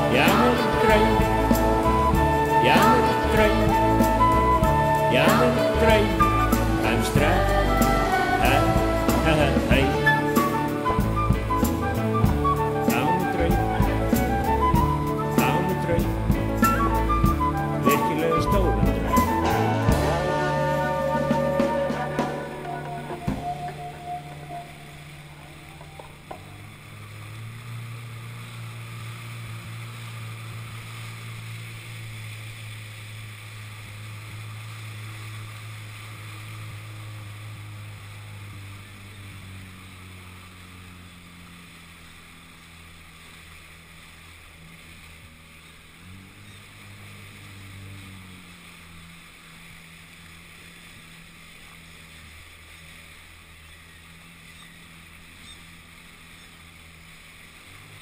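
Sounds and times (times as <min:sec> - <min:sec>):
jetski engine hum: 0:00.0 - 0:58.0
water: 0:00.0 - 0:58.0
wind hiss: 0:00.0 - 0:58.0.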